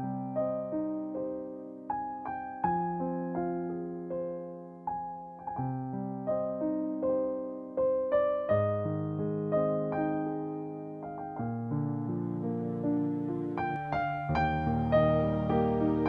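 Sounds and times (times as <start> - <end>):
slow electric piano: 0.0 - 16.0.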